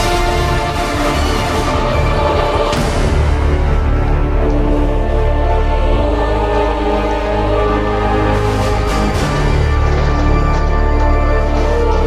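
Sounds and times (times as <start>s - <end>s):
dark ambient music: 0.0s - 12.0s.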